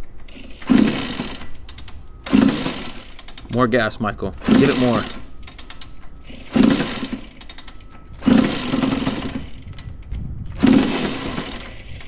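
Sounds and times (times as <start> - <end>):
two-stroke engine revving: 0.3 - 1.5, 2.2 - 3.6, 4.3 - 9.9, 10.5 - 12.0.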